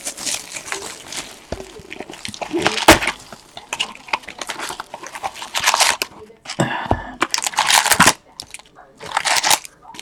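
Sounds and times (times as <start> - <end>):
cards being handled: 0.0 - 6.6, 7.2 - 10.0
foil packs tearing and crinkling: 0.0 - 6.6, 7.2 - 10.0.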